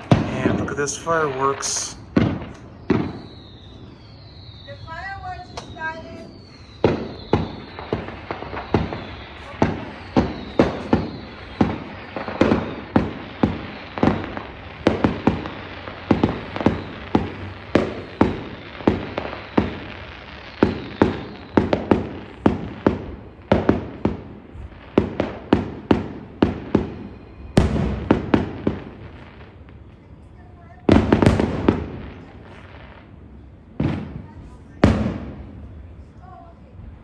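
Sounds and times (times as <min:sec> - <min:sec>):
fireworks bangs with echo: 0:00.0 - 0:37.0.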